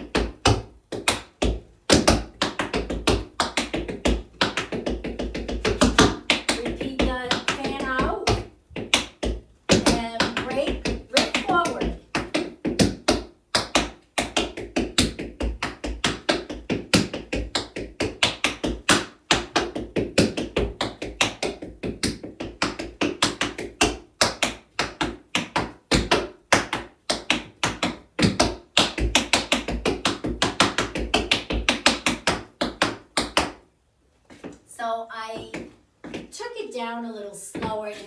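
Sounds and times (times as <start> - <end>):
tap shoes on wooden board: 0.0 - 33.6, 34.3 - 36.4, 37.5 - 38.0.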